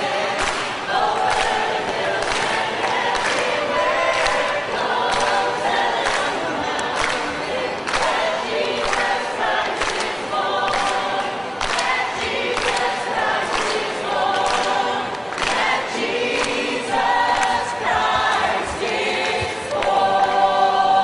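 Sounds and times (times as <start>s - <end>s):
large choir singing: 0.0s - 21.0s.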